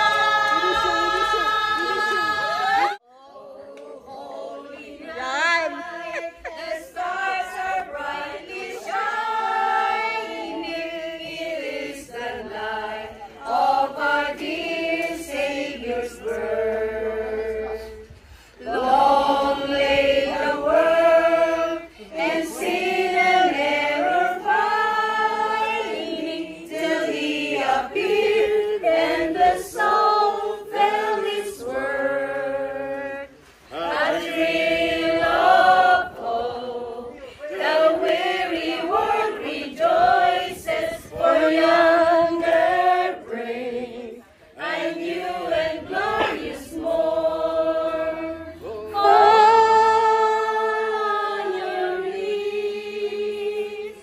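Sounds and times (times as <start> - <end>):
mixed group singing together: 0.0 - 54.0.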